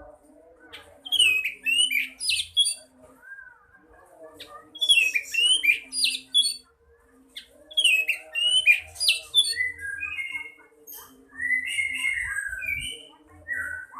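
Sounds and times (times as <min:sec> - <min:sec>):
songbird chirping and whistling: 0:00.7 - 0:03.6, 0:04.8 - 0:06.6, 0:07.4 - 0:13.9.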